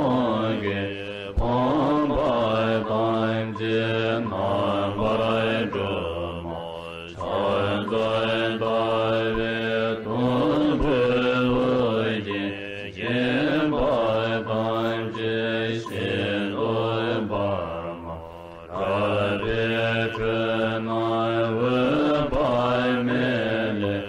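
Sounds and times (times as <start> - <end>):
voices chanting: 0.0 - 24.0.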